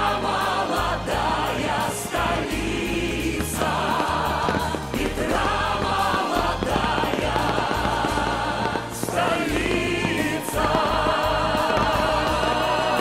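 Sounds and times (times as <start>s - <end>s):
choir singing sustained notes: 0.0s - 13.0s
low bass accompaniment: 0.0s - 13.0s.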